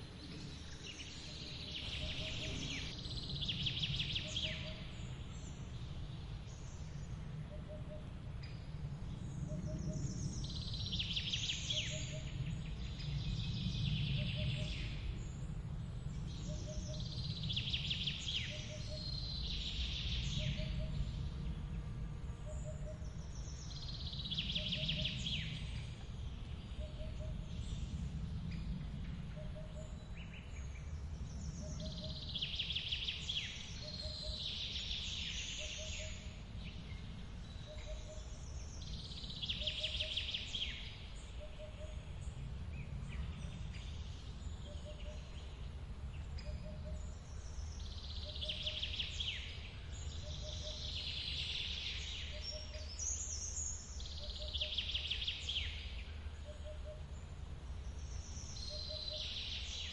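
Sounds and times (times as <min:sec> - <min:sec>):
forest birds singing: 0:00.0 - 0:59.9.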